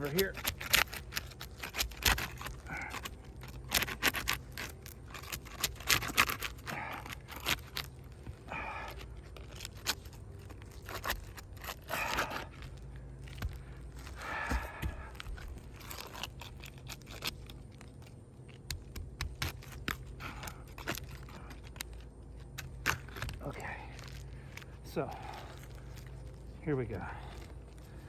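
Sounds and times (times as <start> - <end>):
tool scraping under shingles: 0.0 - 28.0.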